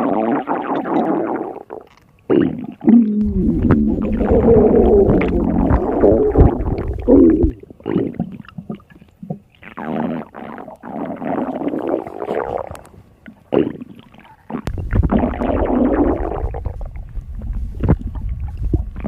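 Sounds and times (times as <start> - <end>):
stomach growling and gurgling: 0.0 - 19.0.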